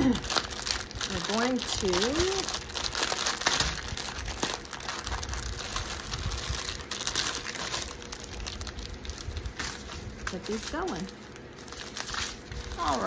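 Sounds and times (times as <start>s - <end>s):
plastic wrapping crackling: 0.0s - 13.0s.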